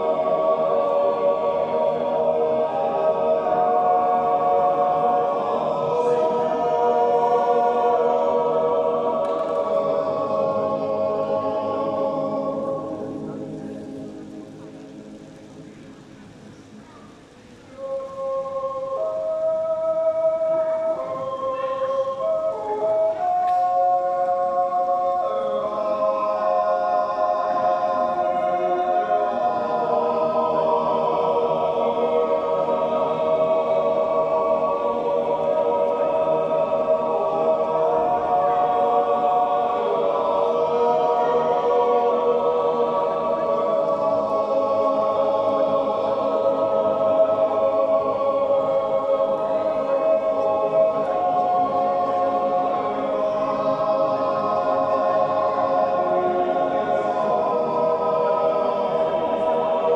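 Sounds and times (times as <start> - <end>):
male choir yodeling: 0.0 - 13.8, 17.7 - 59.9.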